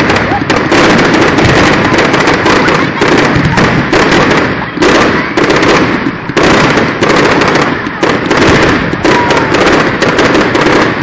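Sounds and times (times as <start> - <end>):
fireworks bangs and crackle: 0.0 - 11.0
sharp firework reports: 0.0 - 11.0.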